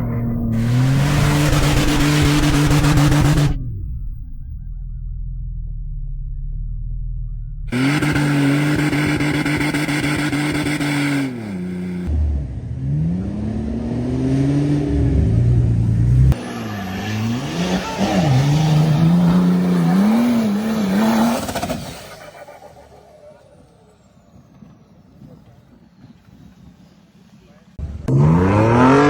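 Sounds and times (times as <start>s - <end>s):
truck engines revving: 0.0s - 3.6s, 7.3s - 29.0s.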